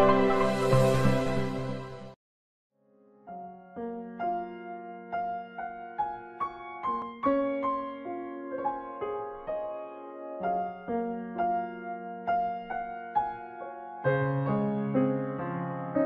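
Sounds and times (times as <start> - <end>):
gentle piano music: 0.0 - 2.2, 2.9 - 16.0.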